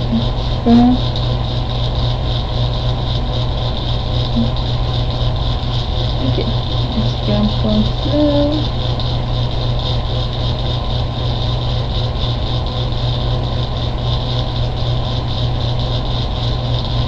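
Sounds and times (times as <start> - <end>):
constant hiss: 0.0 - 17.0
low hum: 0.0 - 17.0.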